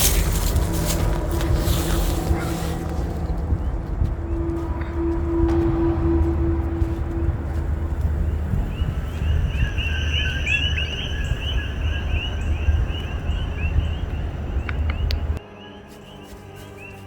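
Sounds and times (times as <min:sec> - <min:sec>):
low rumble: 0:00.0 - 0:15.4
bird chirping: 0:00.0 - 0:17.0.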